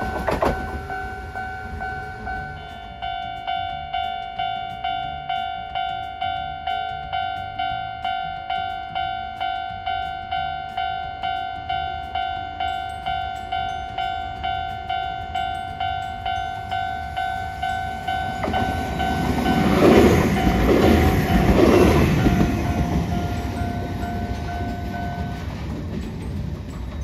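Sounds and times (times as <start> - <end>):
tram wheel noise: 0.0 - 27.0.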